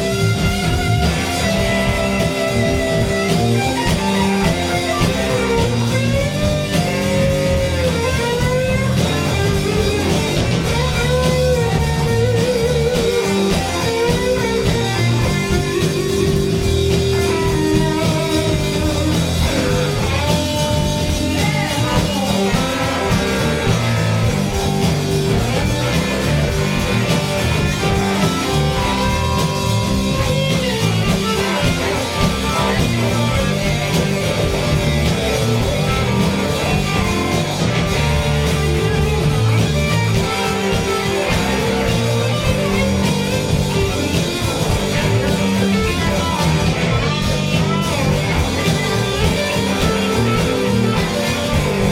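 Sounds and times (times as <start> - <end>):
blues rock band playing: 0.0 - 51.9
lead guitar bending notes: 0.0 - 51.9.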